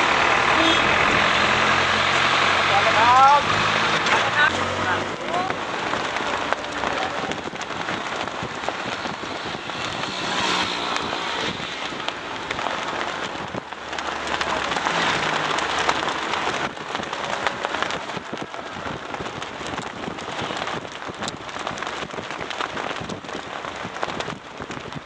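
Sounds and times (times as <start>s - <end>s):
faint road traffic: 0.0s - 25.0s
wind: 0.0s - 25.0s
flags and paper signs flapping: 3.4s - 25.0s.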